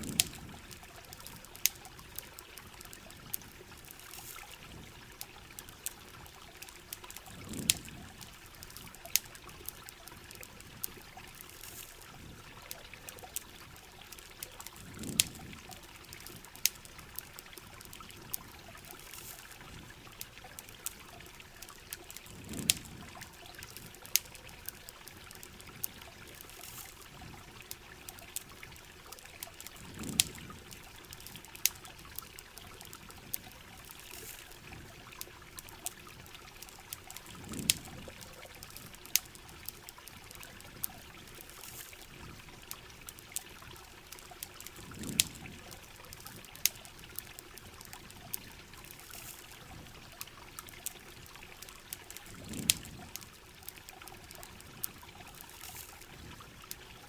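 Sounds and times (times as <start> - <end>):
campfire crackles and pops: 0.0 - 57.0
steady rain: 0.0 - 57.0
trickling water: 0.0 - 57.0.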